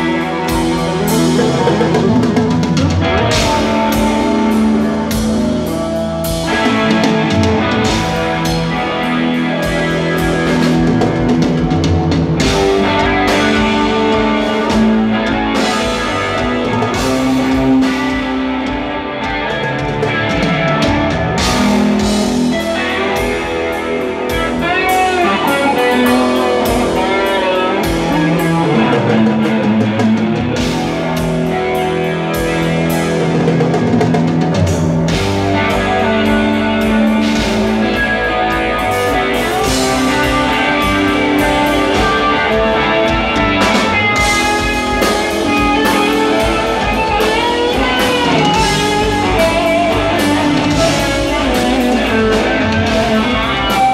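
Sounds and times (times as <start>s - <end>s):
drum kit: 0.0s - 53.9s
electric bass: 0.0s - 53.9s
electric guitar with sliding lines: 0.0s - 53.9s.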